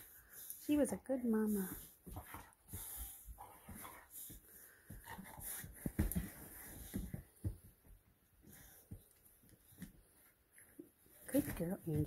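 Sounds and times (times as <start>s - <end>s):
dog breaths and snuffles: 0.0s - 10.2s
dogs scuffling: 0.0s - 12.0s.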